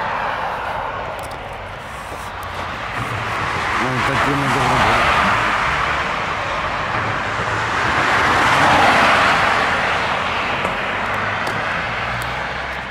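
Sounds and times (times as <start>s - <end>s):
cars passing: 0.0s - 12.9s.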